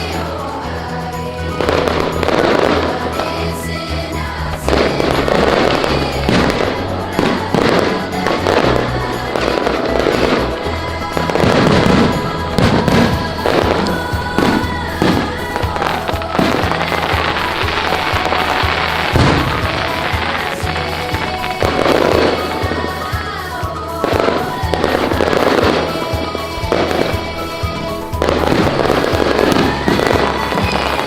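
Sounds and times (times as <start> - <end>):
music with steady bass line: 0.0 - 31.0
fireworks bangs and crackles: 4.5 - 23.2, 24.0 - 31.0.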